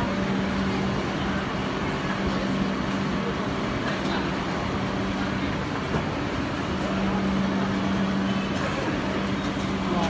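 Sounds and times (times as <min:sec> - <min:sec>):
train machine hum: 0:00.0 - 0:10.0.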